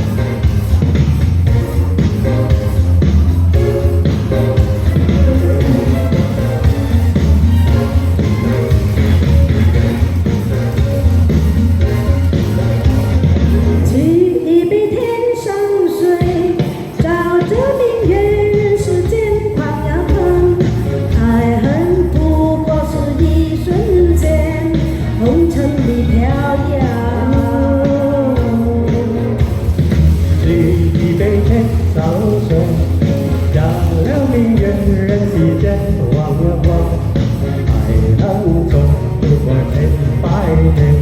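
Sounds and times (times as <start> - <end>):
pop-rock band backing: 0.0 - 14.3, 16.0 - 41.0
person singing: 3.5 - 41.0.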